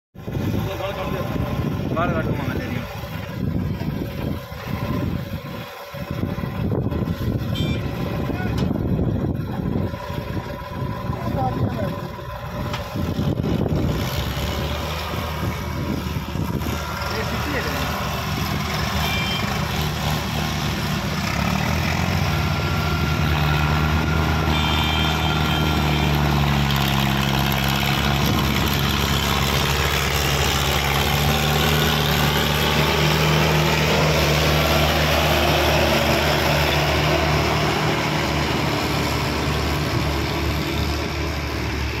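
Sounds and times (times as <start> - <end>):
tractor diesel engine running: 0.2 - 42.0.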